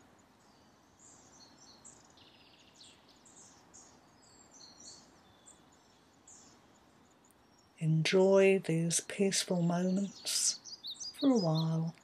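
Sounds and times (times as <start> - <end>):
soft steady hiss: 0.0 - 12.0
small birds chirping: 0.2 - 12.0.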